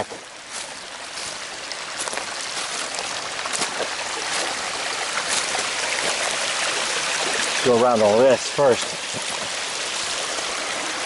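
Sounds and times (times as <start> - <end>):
stream rushing water: 0.0 - 11.0.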